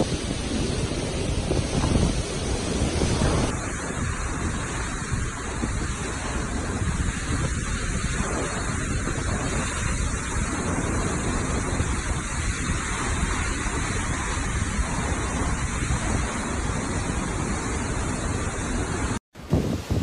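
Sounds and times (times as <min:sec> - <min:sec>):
churning floodwater: 0:00.0 - 0:20.0
heavy rain: 0:00.0 - 0:20.0
hurricane winds buffeting microphone: 0:00.0 - 0:20.0.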